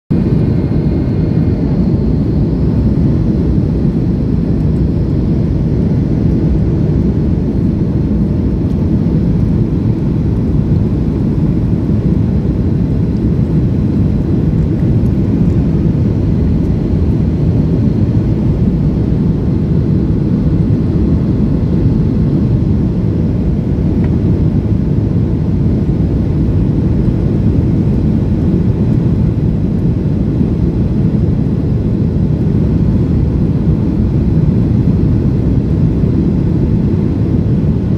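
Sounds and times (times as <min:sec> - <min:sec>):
airliner cabin engine and airflow noise: 0:00.1 - 0:37.9.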